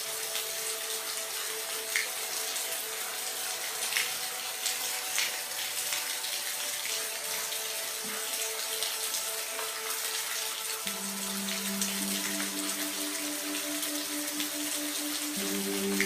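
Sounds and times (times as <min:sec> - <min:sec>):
raindrop splashes: 0:00.0 - 0:16.0
steady rain falling: 0:00.0 - 0:16.0.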